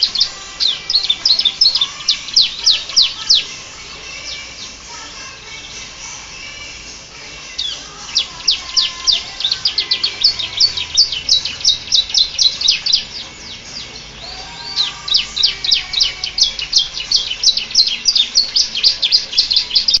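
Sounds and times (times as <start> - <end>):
canary singing sharp chirps: 0.0 - 20.0.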